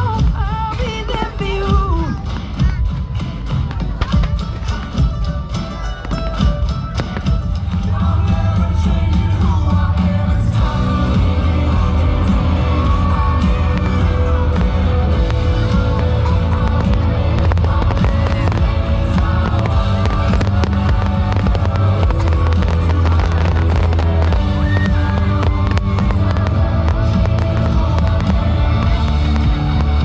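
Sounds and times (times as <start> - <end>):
background music with bass: 0.0 - 30.0
fireworks bangs and crackles: 0.0 - 30.0.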